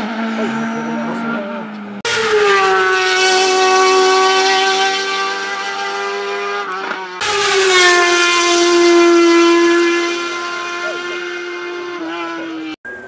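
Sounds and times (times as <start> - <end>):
race car engine at high revs: 0.0 - 13.0.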